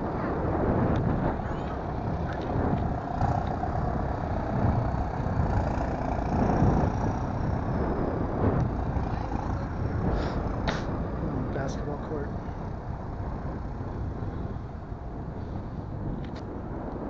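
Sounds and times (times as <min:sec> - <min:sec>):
road traffic passing: 0:00.0 - 0:17.0
wind rumble on microphone: 0:00.0 - 0:17.0.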